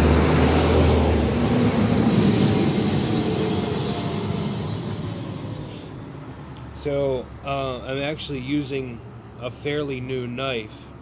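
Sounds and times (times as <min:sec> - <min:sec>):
passing vehicle rumble: 0:00.0 - 0:11.0.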